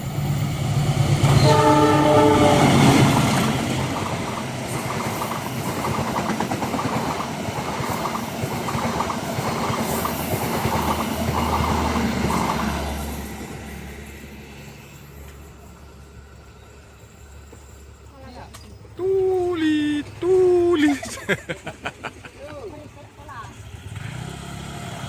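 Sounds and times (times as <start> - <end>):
train passing: 0.0 - 25.0.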